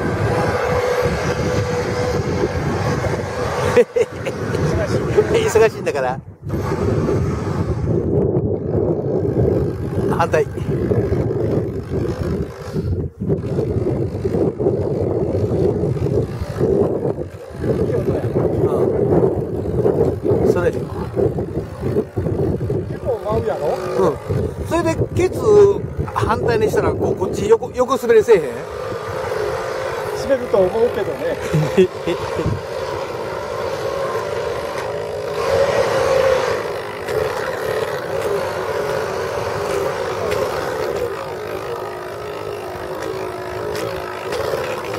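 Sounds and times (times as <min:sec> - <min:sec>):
small electric motors humming: 0:00.0 - 0:44.9
wind buffeting microphone: 0:00.0 - 0:44.9.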